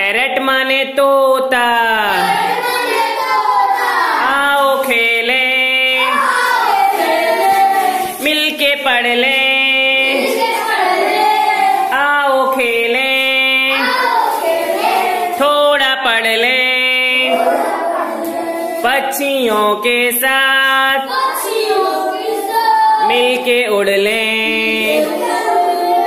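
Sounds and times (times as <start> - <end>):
children singing in unison: 2.0 - 26.0.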